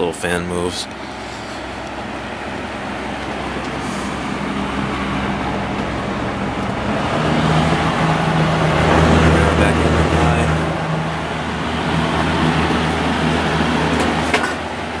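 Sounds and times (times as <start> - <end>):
fan air rushing: 0.0 - 15.0
low motor hum: 0.0 - 15.0.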